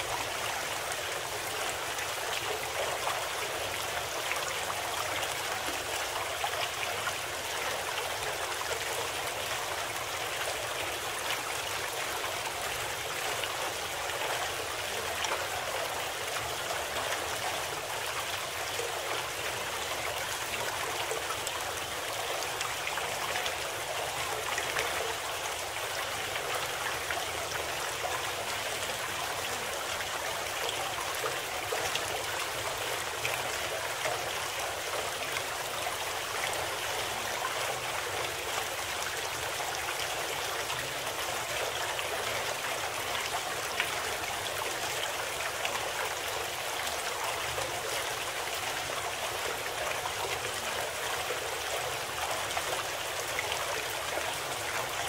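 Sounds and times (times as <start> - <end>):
running water: 0.0 - 55.0.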